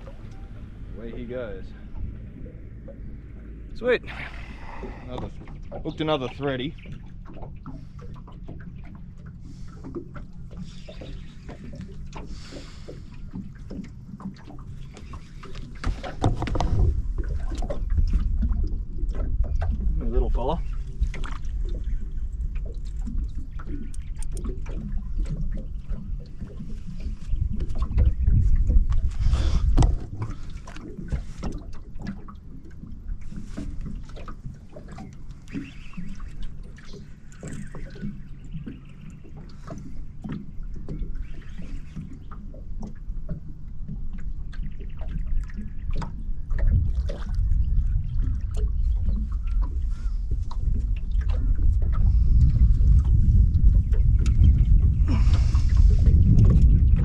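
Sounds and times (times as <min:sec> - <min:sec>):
knocks and clicks against hull: 0:00.0 - 0:03.9, 0:04.5 - 0:57.0
low rumble: 0:00.0 - 0:41.4, 0:45.1 - 0:57.0
wind buffeting microphone: 0:00.0 - 0:42.3, 0:44.8 - 0:57.0
water slapping: 0:00.0 - 0:57.0.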